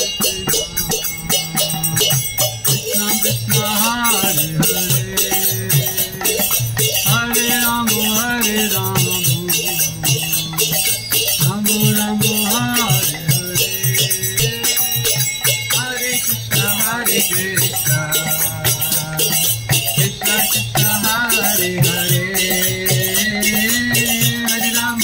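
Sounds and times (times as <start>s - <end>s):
hand cymbals clashing: 0.0s - 25.0s
two-headed drum beating: 0.0s - 25.0s.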